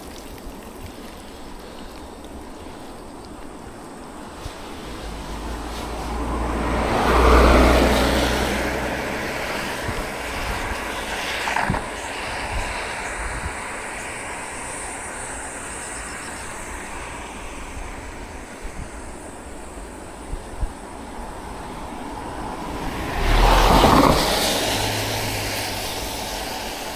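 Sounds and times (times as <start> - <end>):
road and wind noise: 0.0 - 26.9
vehicle passing on wet road: 3.6 - 26.9.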